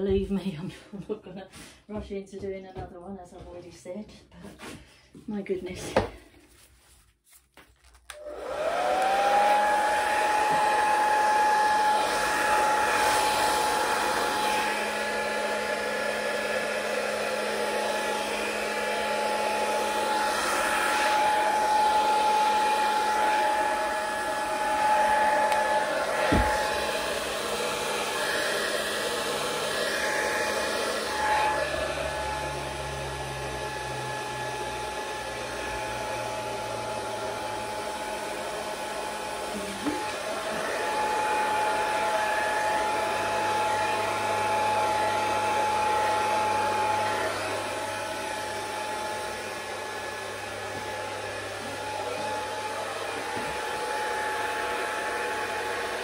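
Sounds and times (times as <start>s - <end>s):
hair dryer blowing: 8.0s - 56.0s.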